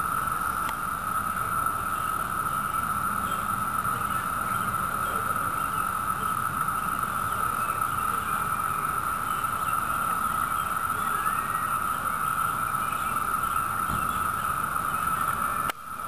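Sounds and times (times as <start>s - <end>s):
cicadas droning chorus: 0.0s - 16.0s.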